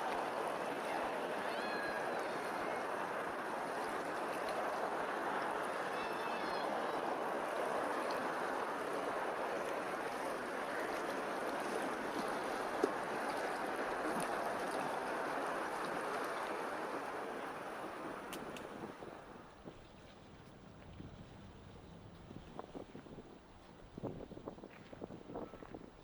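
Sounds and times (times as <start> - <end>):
rushing water: 0.0 - 21.1.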